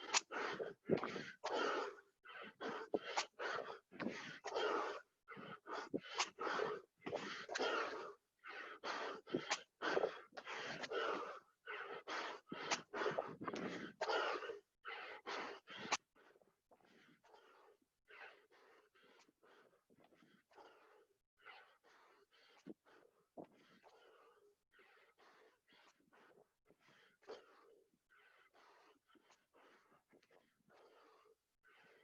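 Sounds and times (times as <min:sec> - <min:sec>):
man panting hard: 0:00.0 - 0:32.0.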